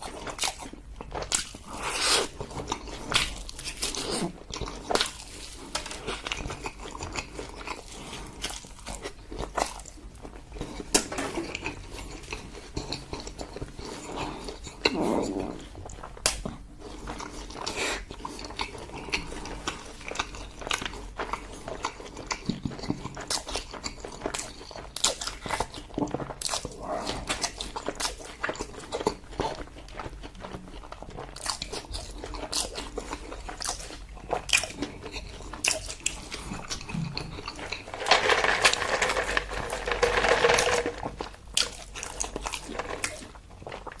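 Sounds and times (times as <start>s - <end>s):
chewing and biting: 0.0s - 38.0s, 39.1s - 44.0s.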